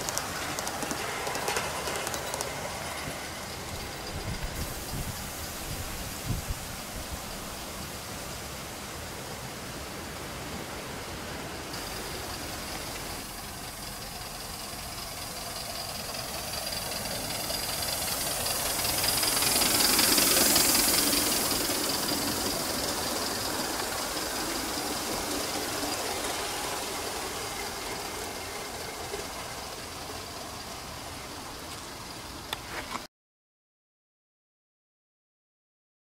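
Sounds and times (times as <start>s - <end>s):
steam hissing: 0.0s - 33.0s
model steam locomotive running: 0.0s - 33.1s.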